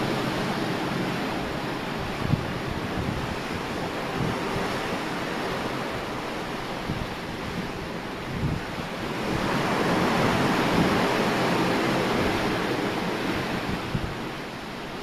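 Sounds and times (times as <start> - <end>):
water rushing along a hull: 0.0 - 15.0
wind buffeting microphone: 0.0 - 15.0.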